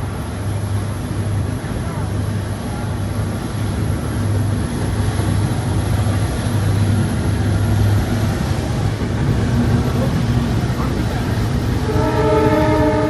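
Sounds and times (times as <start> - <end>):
heavy engine humming: 0.0 - 13.0.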